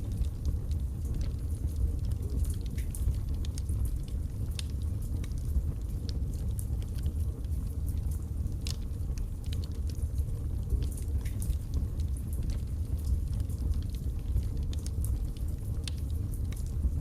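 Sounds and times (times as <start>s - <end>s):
burning logs crackling and popping: 0.0s - 17.0s
fire flames rumbling: 0.0s - 17.0s.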